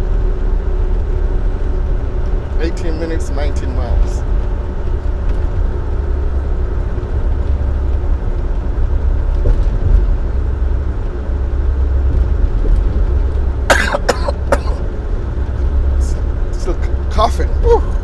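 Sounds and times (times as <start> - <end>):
diesel engine drone: 0.0 - 18.0
road rumble: 0.0 - 18.0.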